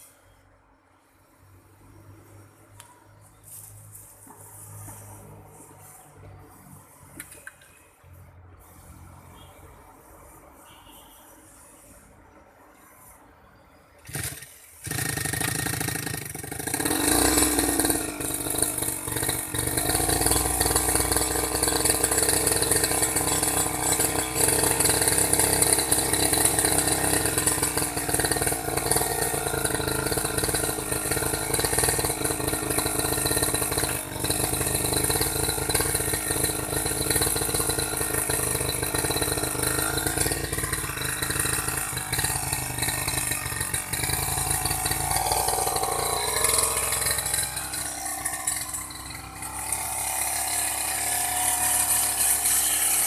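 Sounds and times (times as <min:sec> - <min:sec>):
lawn mower engine rattling: 0:02.2 - 0:07.8, 0:14.0 - 0:53.0.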